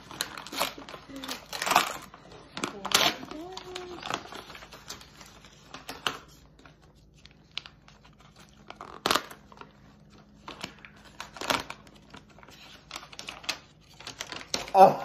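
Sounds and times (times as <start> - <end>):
paper rustling and tearing: 0.0 - 14.8.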